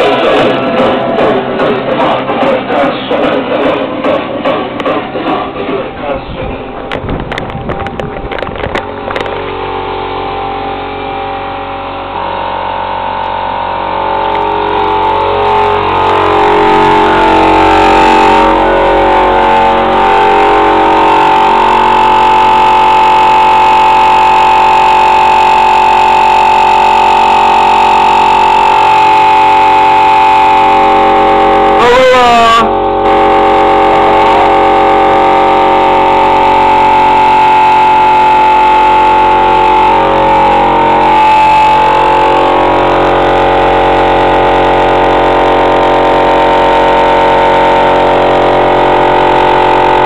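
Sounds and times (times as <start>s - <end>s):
air compressor motor humming: 0.0s - 50.0s.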